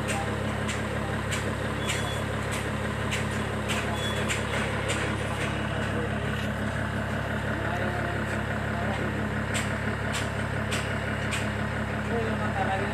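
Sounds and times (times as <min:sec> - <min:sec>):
truck engine running: 0:00.0 - 0:12.9.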